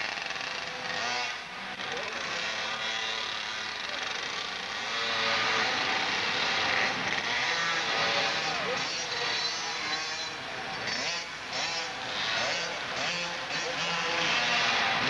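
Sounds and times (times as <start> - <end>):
dirt bike engines revving: 0.0 - 15.0
voices: 0.6 - 15.0.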